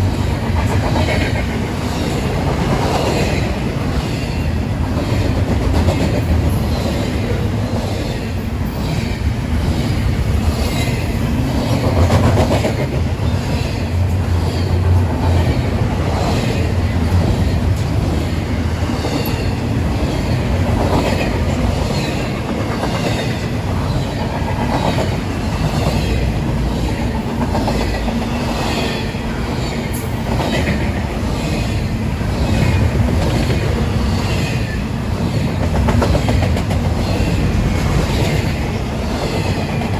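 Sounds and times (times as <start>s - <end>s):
train rumble: 0.0s - 39.9s
train wheels clicking over rail joints: 0.0s - 39.9s.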